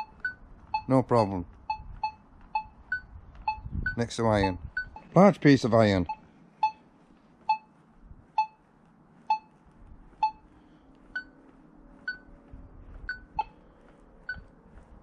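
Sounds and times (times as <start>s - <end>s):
metal detector beeps: 0.0s - 7.8s, 8.4s - 11.4s, 12.0s - 12.4s, 13.0s - 14.6s.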